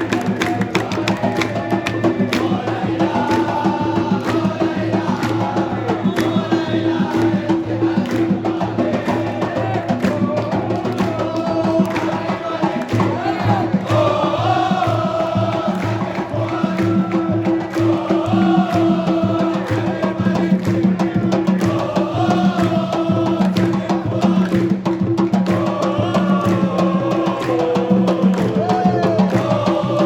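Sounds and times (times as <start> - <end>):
crowd chanting in song: 0.0 - 30.0
drum beat: 0.0 - 30.0.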